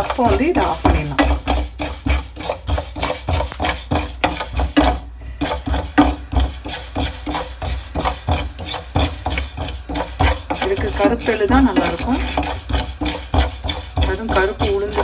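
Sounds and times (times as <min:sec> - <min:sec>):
spatula scraping seeds in a pan: 0:00.0 - 0:15.0.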